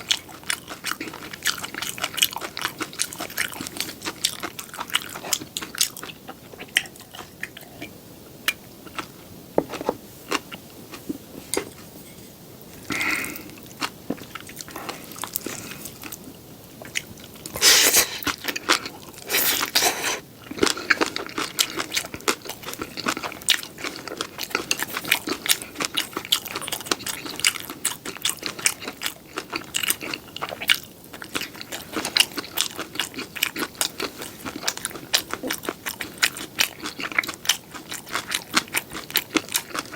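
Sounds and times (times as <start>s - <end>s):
crunchy chewing: 0.0s - 7.8s, 12.8s - 39.9s.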